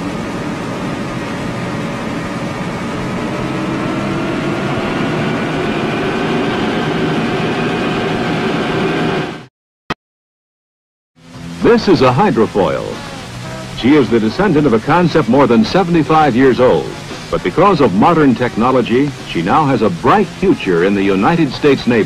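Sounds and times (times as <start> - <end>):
gas turbine whining over rumble: 0.0 - 9.5, 11.2 - 22.0.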